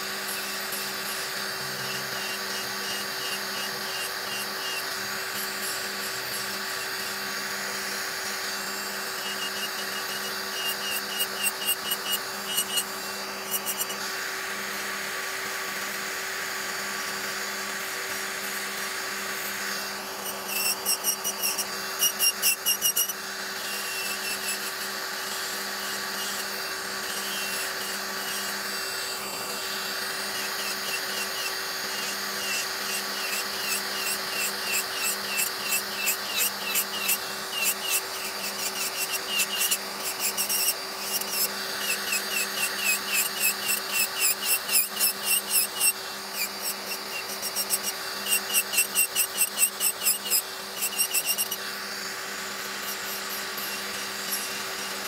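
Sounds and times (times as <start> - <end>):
nail drill grinding: 0.0 - 55.0
nail drill hum: 0.0 - 55.0.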